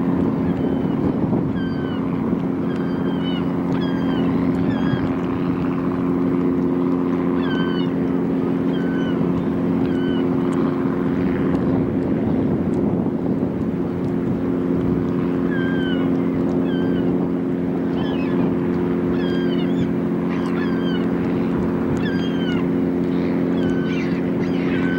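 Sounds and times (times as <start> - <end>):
boat engine humming: 0.0 - 24.9
birds calling: 0.3 - 11.4, 15.1 - 24.9.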